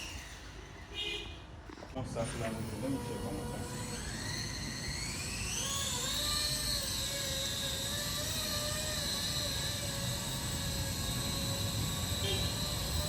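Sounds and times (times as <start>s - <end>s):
electric motor and rotor whining: 0.0s - 0.9s, 2.0s - 13.0s.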